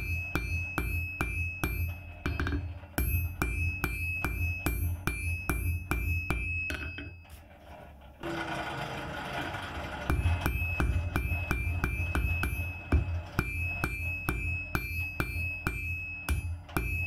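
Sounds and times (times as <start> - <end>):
hammer striking steel on anvil: 0.0 - 7.2, 10.1 - 17.0.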